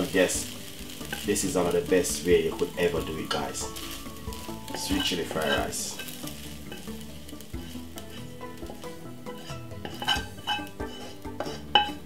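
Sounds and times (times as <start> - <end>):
rice sizzling: 0.0 - 12.0
wooden spatula scraping a wok: 0.0 - 12.0.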